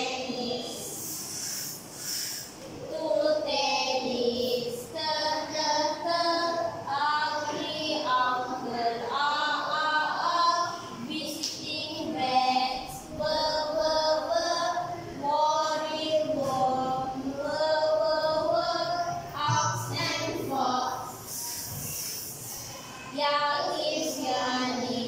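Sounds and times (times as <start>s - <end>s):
children singing in unison: 0.0s - 2.2s, 2.8s - 25.0s.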